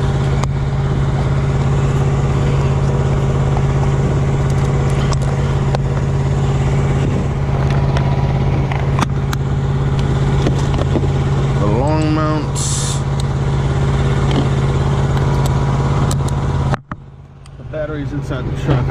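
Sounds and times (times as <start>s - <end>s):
truck engine idling: 0.0s - 18.9s.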